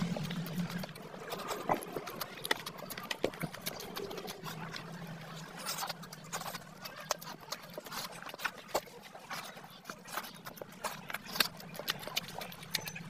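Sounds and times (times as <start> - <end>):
fingers squelching food on metal plate: 0.0 - 13.0
wet chewing and lip smacking: 0.0 - 13.0.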